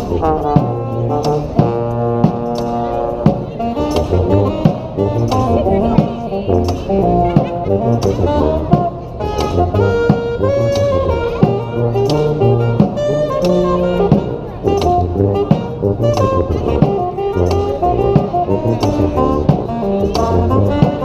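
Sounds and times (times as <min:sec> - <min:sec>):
brass band playing jazz: 0:00.0 - 0:21.0.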